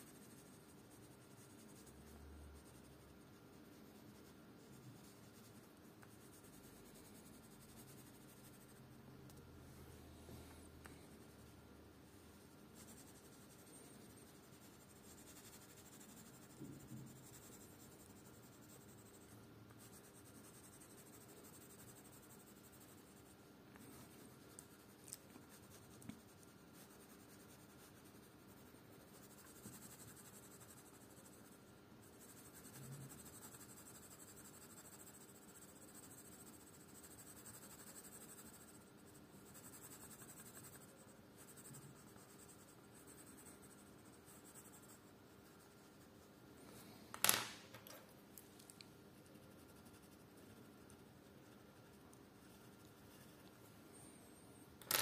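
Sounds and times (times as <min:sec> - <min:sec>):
pencil scratching on paper: 0:00.0 - 0:08.9, 0:12.3 - 0:46.3, 0:49.2 - 0:53.8.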